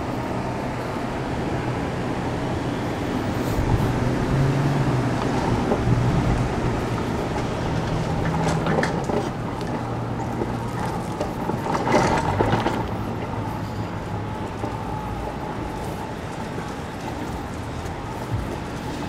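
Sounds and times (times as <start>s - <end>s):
low engine hum: 0.0s - 19.0s
vehicle traffic: 0.0s - 19.0s.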